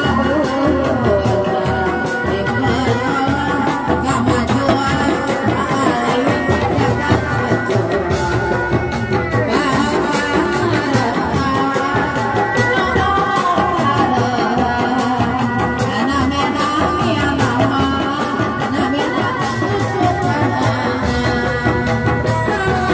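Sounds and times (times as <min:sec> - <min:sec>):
frame drums and barrel drum beating: 0:00.0 - 0:22.9.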